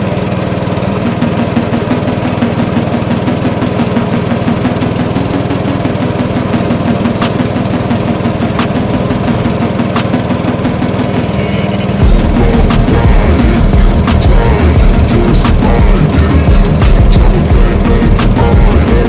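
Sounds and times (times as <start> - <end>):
boat engine knocking steadily: 0.0 - 19.0.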